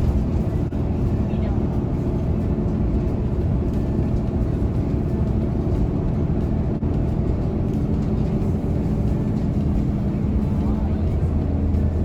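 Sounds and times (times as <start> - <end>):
bus engine drone: 0.0 - 12.0
road rumble: 0.0 - 12.0.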